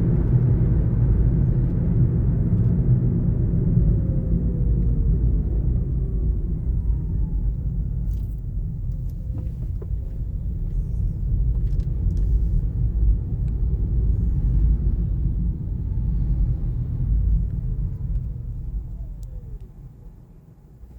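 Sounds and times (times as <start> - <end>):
car motor whine: 0.0 - 20.2
road and tyre rumble: 0.0 - 20.9.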